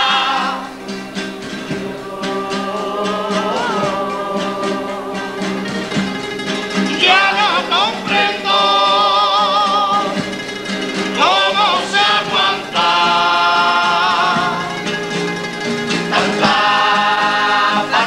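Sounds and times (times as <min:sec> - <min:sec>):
low musical accompaniment: 0:00.0 - 0:18.0
male chorus singing in harmony: 0:00.0 - 0:18.0.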